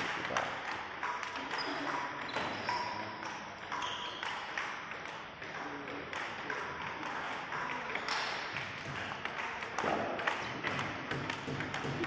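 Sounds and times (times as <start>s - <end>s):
table tennis balls clicking: 0.0s - 12.0s.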